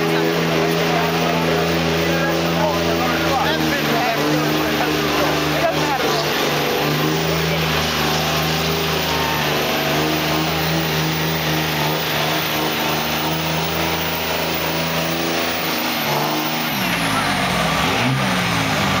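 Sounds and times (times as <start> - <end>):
diesel truck engine revving hard: 0.0 - 19.0.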